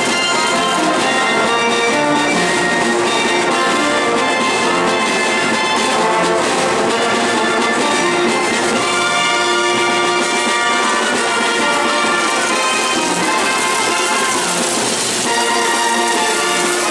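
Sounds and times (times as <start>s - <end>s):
brass band playing: 0.0s - 16.9s.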